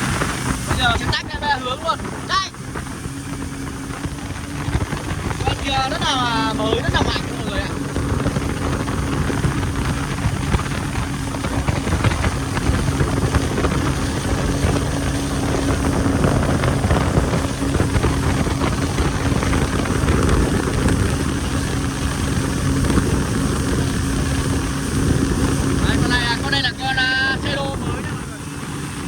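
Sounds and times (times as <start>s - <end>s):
jet ski engine running hard: 0.0s - 29.0s.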